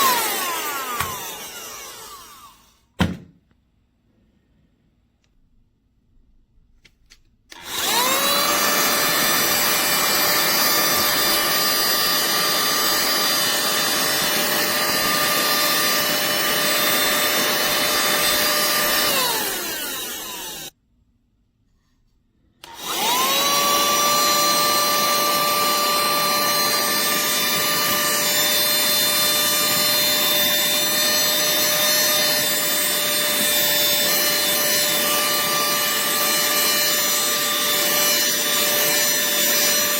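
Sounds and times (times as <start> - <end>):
mini-vacuum motor whining: 0.0 - 2.8, 7.5 - 20.7, 22.6 - 39.9.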